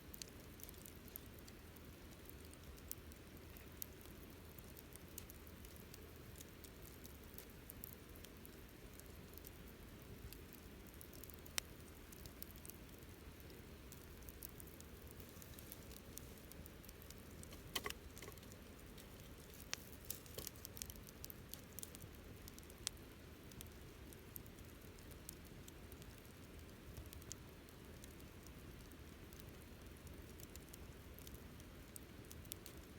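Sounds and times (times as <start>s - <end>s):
campfire crackling: 0.0s - 32.9s.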